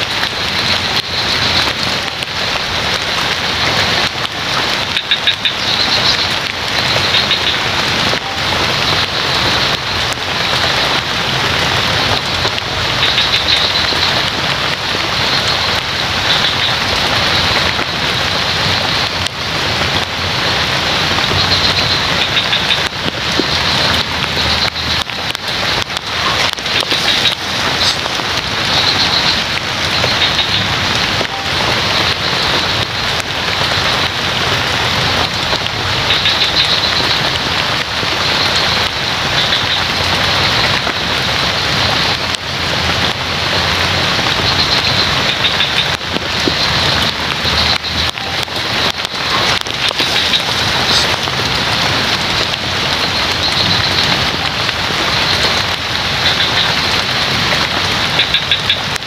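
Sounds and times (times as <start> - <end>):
rain on pond water and leaves: 0.0 - 59.0
frogs calling: 3.1 - 42.4, 43.0 - 59.0.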